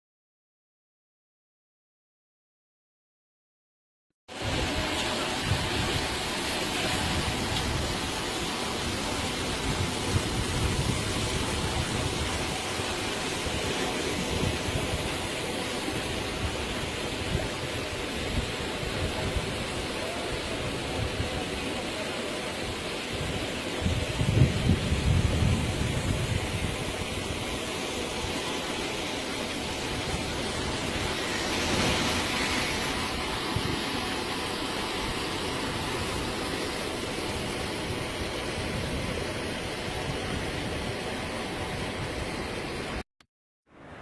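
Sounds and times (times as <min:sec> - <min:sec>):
rushing water: 0:04.3 - 0:43.0.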